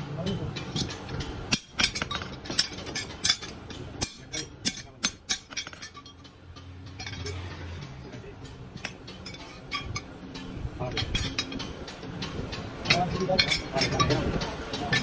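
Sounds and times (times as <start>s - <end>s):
low steady hum: 0.0s - 15.0s
metal clinking and tapping: 0.0s - 15.0s.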